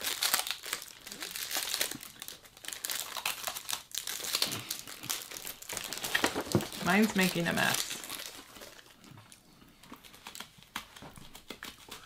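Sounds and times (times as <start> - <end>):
snack wrapper crinkling: 0.0 - 12.0.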